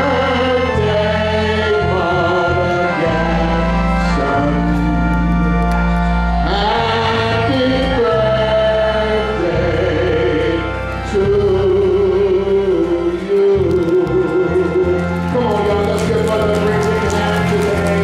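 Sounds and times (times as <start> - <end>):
bass accompaniment: 0.0 - 18.0
gospel singing: 0.0 - 18.0.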